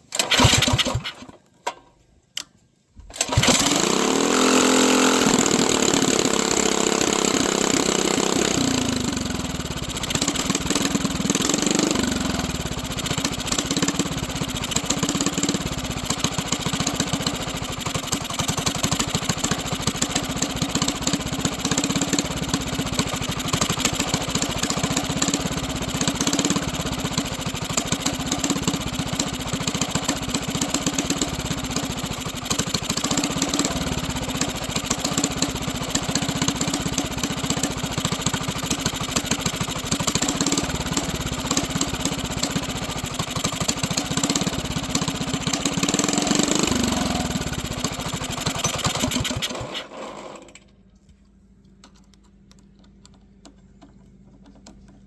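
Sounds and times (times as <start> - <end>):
small engine idling: 0.1 - 1.4, 3.2 - 50.8.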